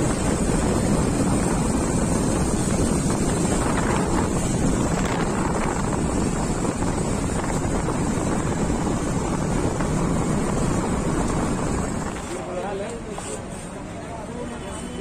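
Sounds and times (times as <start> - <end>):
wind buffeting microphone: 0.0 - 12.3
road noise: 0.0 - 15.0.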